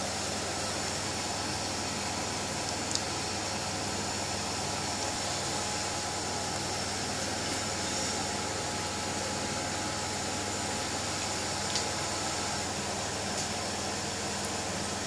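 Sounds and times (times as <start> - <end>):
motor humming and hissing: 0.0 - 15.0.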